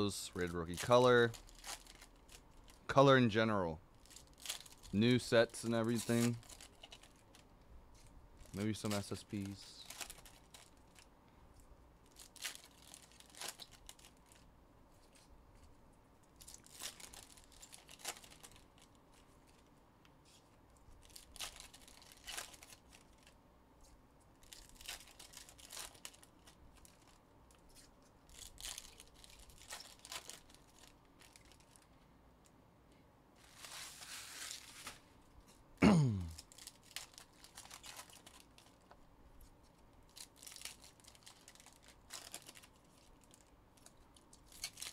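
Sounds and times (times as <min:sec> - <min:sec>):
wrappers tearing and crinkling: 0:00.0 - 0:02.9, 0:03.9 - 0:07.5, 0:08.4 - 0:11.1, 0:12.0 - 0:15.3, 0:16.3 - 0:19.7, 0:20.3 - 0:31.9, 0:33.4 - 0:35.1, 0:36.2 - 0:38.9, 0:39.6 - 0:44.9.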